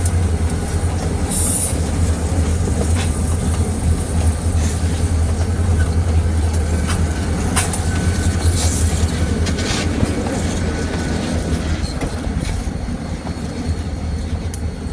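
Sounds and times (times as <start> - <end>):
locomotive engine droning: 0.0 - 14.9
train wheels clicking over rail joints: 0.0 - 14.9.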